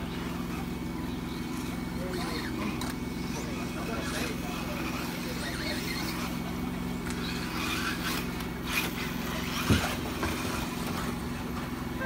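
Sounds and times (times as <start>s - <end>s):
small rc cars racing: 0.0s - 12.0s
steady low hum: 0.0s - 12.0s.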